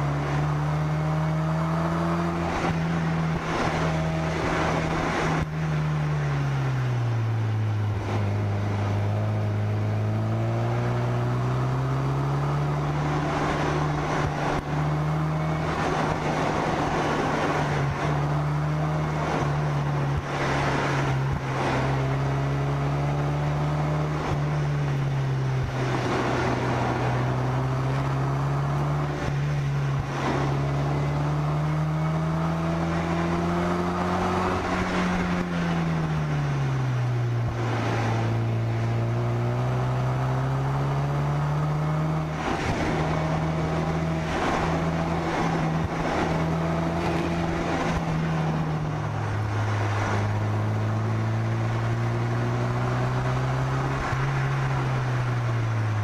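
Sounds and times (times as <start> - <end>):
car engine while driving: 0.0 - 56.0.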